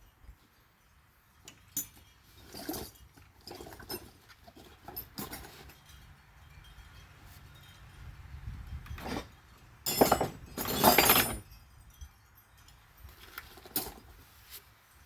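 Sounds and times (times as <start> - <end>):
metal tools clinking: 1.4 - 8.0, 8.7 - 14.2.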